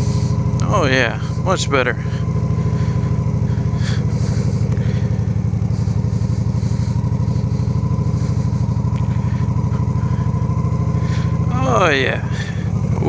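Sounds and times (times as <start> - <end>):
motorcycle engine running slowly: 0.0 - 13.0.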